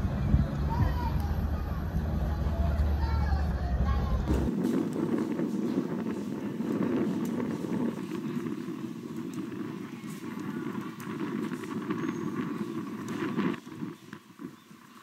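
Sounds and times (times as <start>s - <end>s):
low rumble: 0.0s - 13.2s.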